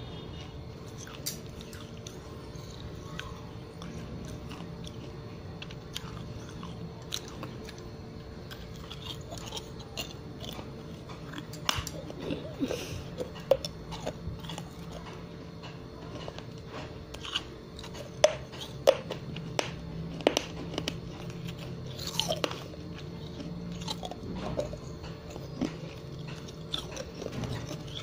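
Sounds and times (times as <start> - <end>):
chewing clay pot crunches: 0.0 - 28.0.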